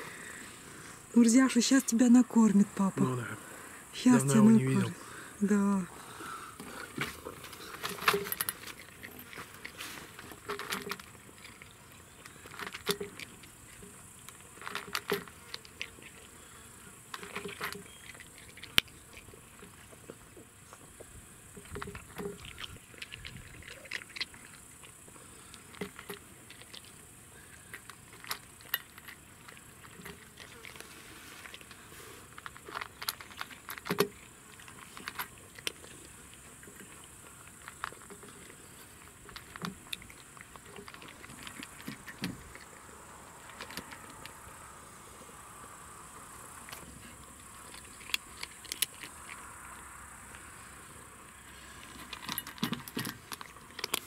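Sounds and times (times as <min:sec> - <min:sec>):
cat crunching dry kibble: 0:06.0 - 0:54.0.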